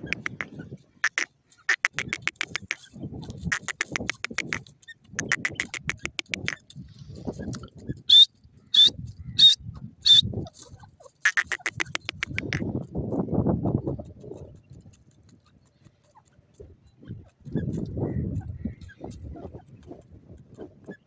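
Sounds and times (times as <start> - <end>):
francolin clicking calls: 0.0 - 6.8, 7.4 - 12.8, 14.3 - 19.8.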